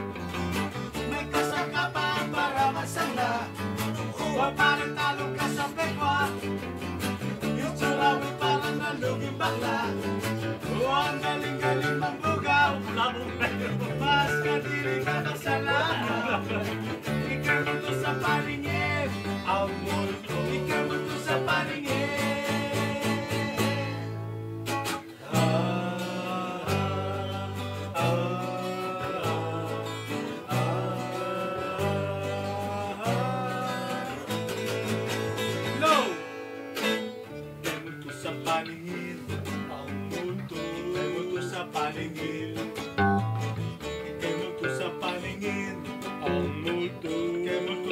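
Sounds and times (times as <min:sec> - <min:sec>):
acoustic guitars strumming: 0:00.0 - 0:47.9
bass guitar: 0:00.0 - 0:47.9
man singing: 0:00.7 - 0:24.4, 0:25.0 - 0:36.4, 0:37.6 - 0:47.9.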